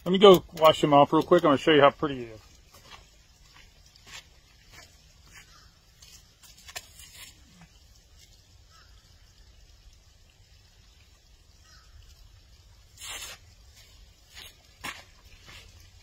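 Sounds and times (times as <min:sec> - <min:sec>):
water splashing and trickling: 0:00.0 - 0:16.0.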